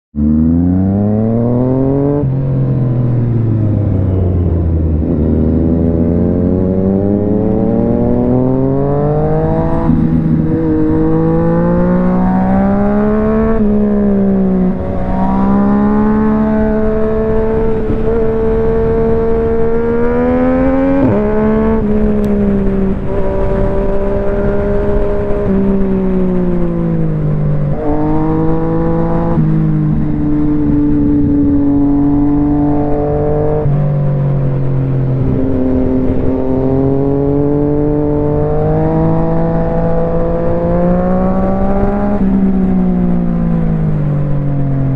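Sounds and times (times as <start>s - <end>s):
motorcycle engine revving: 0.1s - 44.9s.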